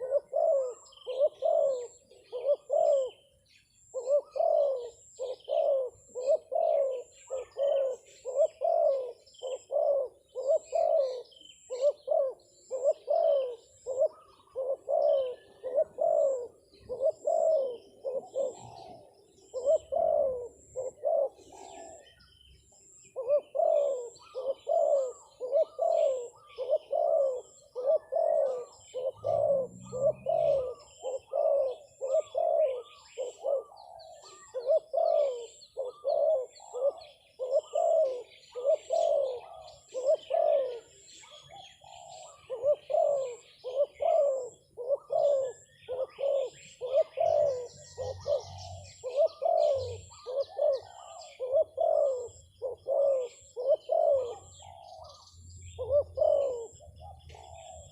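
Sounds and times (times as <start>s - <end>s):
dove cooing: 0.0s - 57.9s.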